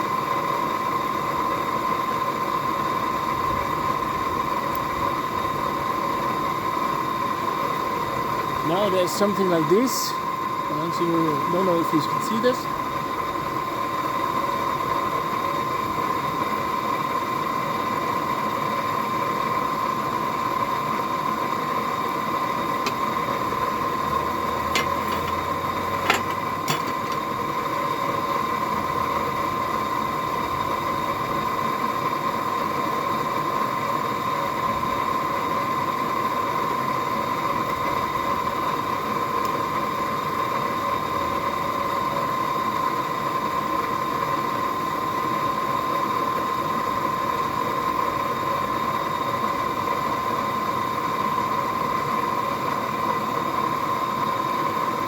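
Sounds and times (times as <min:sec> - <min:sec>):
forge blower rushing with whine: 0:00.0 - 0:55.0.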